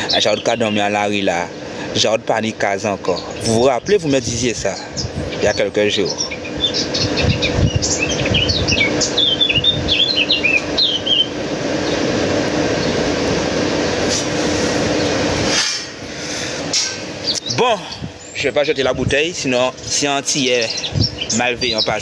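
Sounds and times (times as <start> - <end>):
birds chirping: 0.0 - 22.0
steady rushing noise: 3.2 - 22.0.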